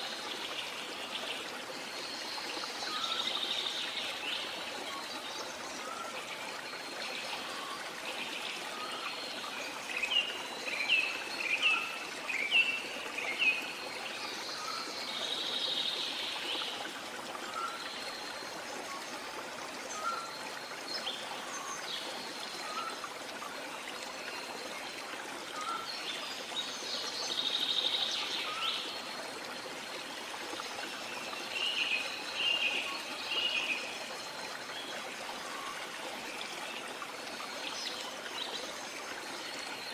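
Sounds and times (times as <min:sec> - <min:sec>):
trickle of running water: 0:00.0 - 0:39.9.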